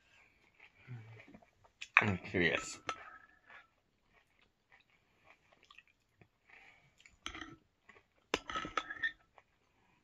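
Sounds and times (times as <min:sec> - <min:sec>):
chewing crunchy cereal: 0:00.0 - 0:10.0.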